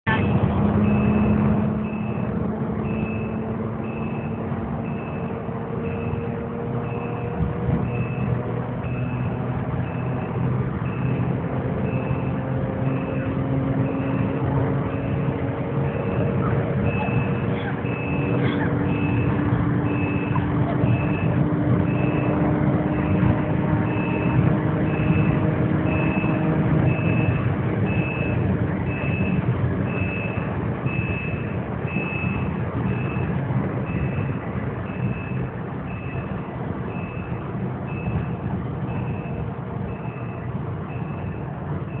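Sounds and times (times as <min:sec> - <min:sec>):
car engine: 0:00.0 - 0:42.0
wind and tyre noise: 0:00.0 - 0:42.0
high electronic beep: 0:00.1 - 0:36.3, 0:36.9 - 0:42.0.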